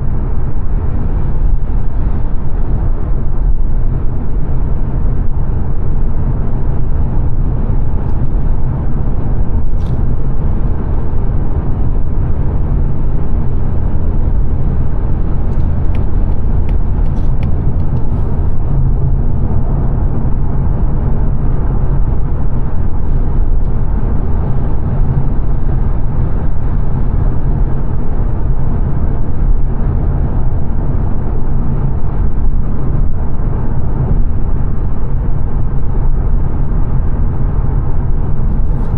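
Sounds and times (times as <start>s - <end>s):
engine hum: 0.0s - 38.9s
road and tyre noise: 0.0s - 38.9s.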